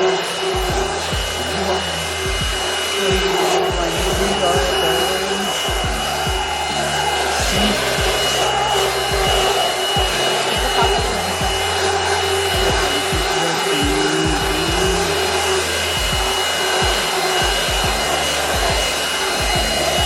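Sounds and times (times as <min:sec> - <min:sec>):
stick vacuum whining: 0:00.0 - 0:20.0.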